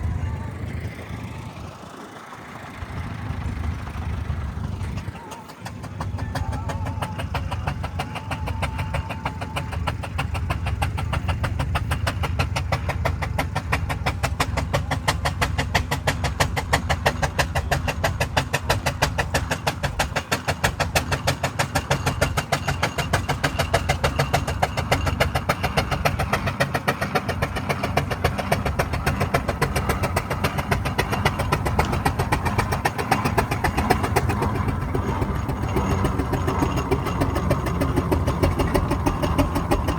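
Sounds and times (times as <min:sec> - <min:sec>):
steam engine running: 0:00.0 - 0:39.9.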